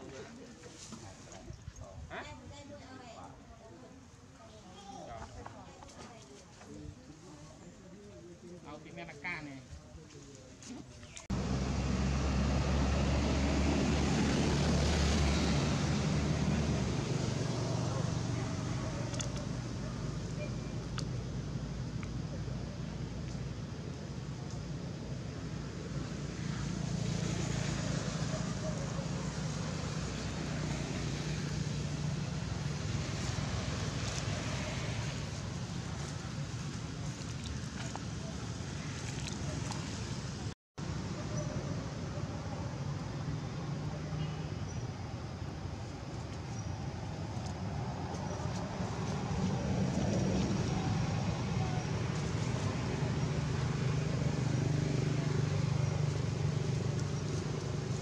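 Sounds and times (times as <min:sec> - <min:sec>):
low rumble with hiss: 0:06.7 - 0:58.0.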